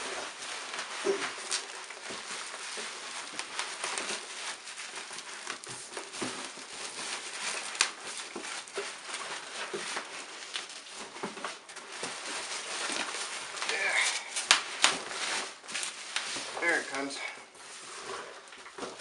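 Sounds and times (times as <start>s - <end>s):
rustling of packing material: 0.0s - 19.0s.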